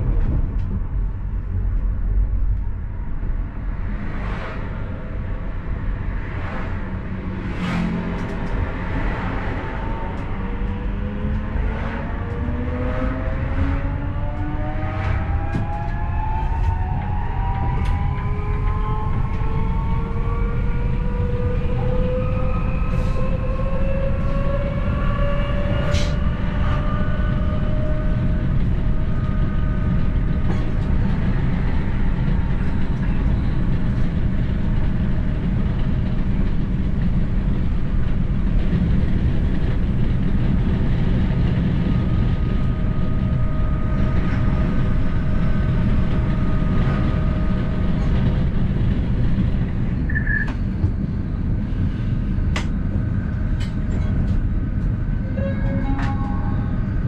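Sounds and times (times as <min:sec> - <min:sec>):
wheels rumbling on rails: 0:00.0 - 0:57.0.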